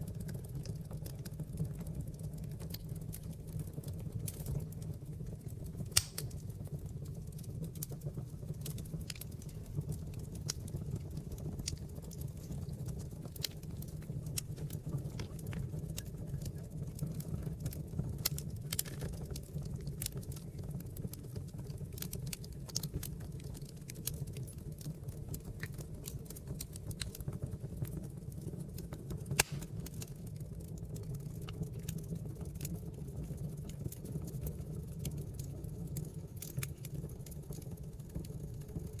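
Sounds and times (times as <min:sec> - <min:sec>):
flames rumbling: 0:00.0 - 0:39.0
logs crackling and popping: 0:00.0 - 0:39.0.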